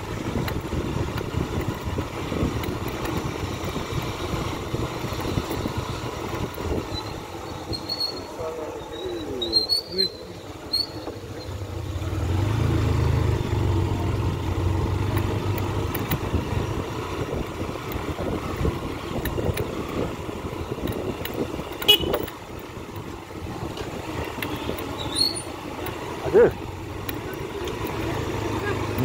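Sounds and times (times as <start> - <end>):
steady traffic noise: 0.0 - 29.0
vehicle engine rumble passing: 0.0 - 29.0.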